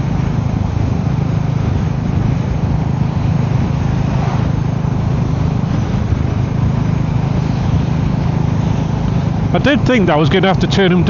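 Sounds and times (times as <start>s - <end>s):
wind noise on microphone: 0.0s - 10.7s
motorcycle engine running: 0.0s - 11.0s
road noise: 0.0s - 11.0s.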